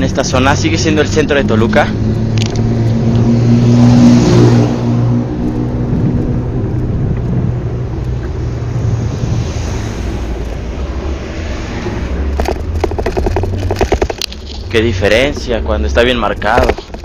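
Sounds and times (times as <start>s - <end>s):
rushing traffic noise: 0.0s - 17.0s
vehicle engine humming: 0.0s - 17.0s.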